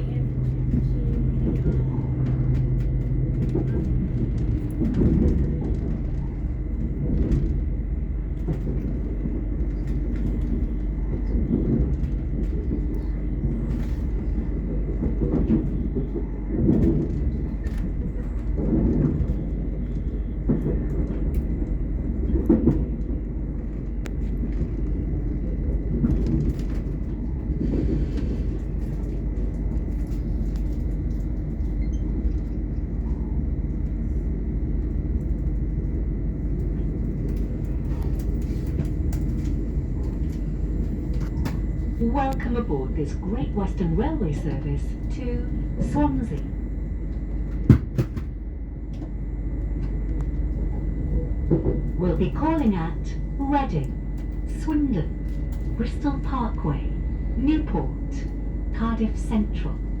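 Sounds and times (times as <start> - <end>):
train interior rumble: 0.0 - 60.0.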